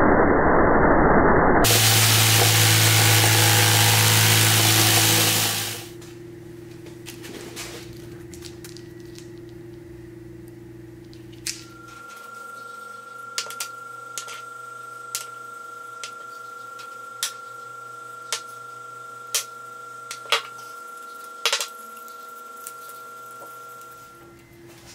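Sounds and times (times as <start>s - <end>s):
background hum: 1.7s - 24.9s.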